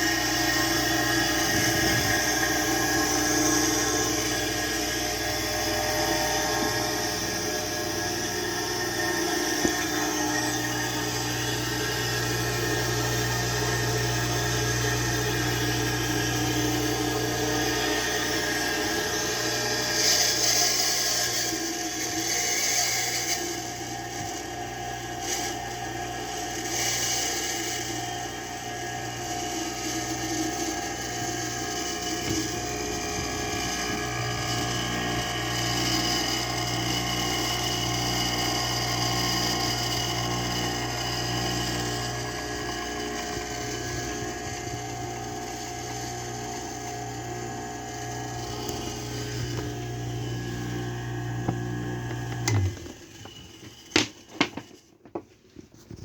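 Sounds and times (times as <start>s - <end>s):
well pump motor humming: 0.0s - 55.2s.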